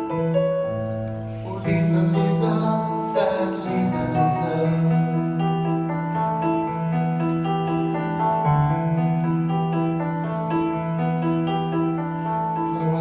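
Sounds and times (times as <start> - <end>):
slow piano ballad: 0.0 - 13.0.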